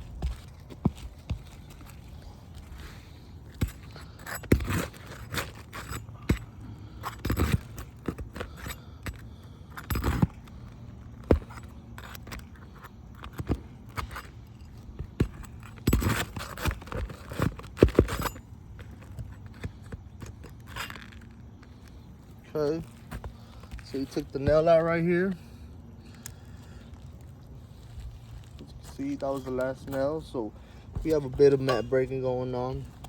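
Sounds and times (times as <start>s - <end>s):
metal tool scraping shingles: 1.7s - 25.3s, 26.0s - 33.0s.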